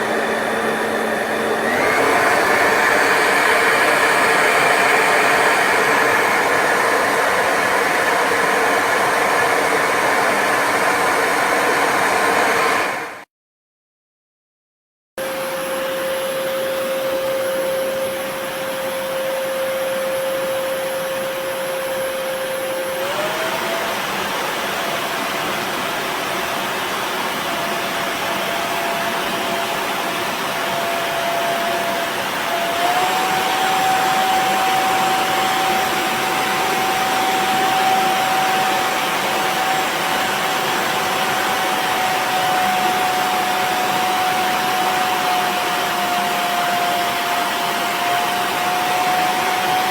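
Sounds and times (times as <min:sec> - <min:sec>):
hair dryer running: 0:00.0 - 0:13.3, 0:15.2 - 0:49.9.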